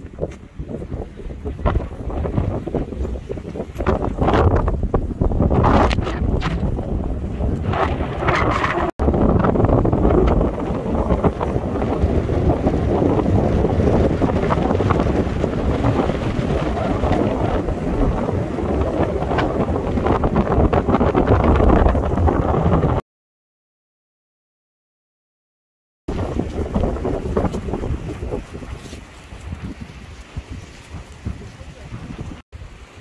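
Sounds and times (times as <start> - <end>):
gusty wind buffeting microphone: 0.0 - 23.0, 26.1 - 33.0.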